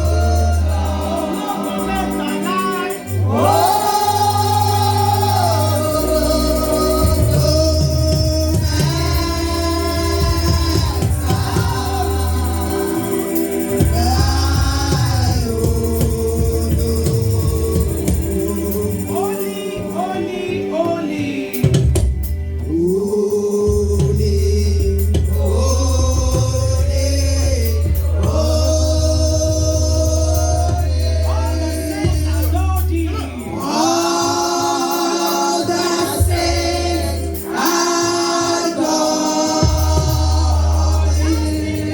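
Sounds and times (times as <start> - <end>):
band with heavy bass: 0.0 - 41.9
choir singing gospel: 0.0 - 41.9.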